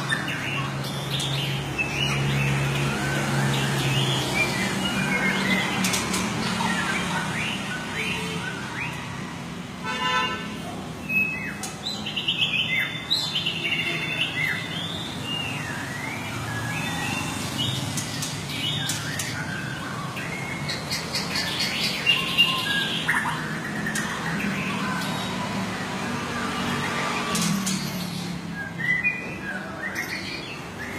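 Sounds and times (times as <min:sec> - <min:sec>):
songbird singing: 0:00.0 - 0:09.4, 0:11.0 - 0:30.9.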